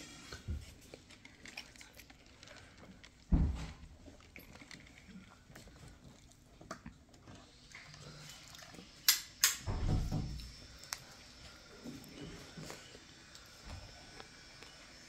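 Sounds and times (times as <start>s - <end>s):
eating and drinking noises: 0.0s - 15.0s.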